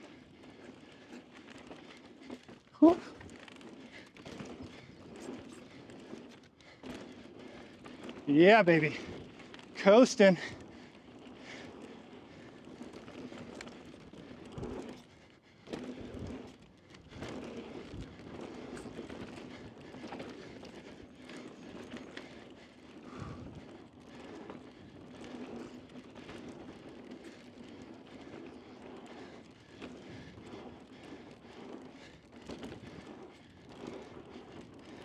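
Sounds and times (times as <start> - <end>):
bike rattling over bumps: 0.0 - 35.0
bike tyres on loose dirt: 0.0 - 35.0.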